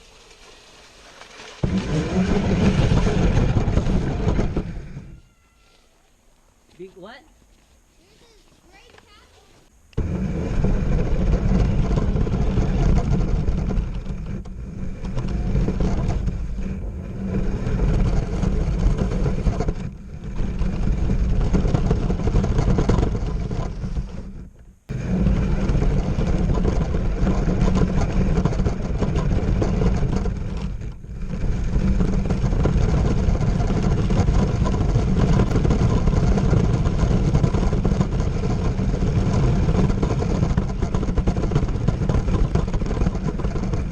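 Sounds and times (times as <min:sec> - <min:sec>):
radio-controlled truck rumbling: 0:01.6 - 0:05.2, 0:09.9 - 0:43.9.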